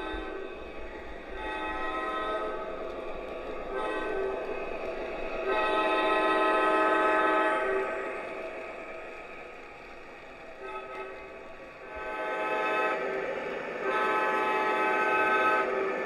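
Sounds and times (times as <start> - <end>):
electronic train horn blasts: 0.0 - 8.5, 10.6 - 16.0.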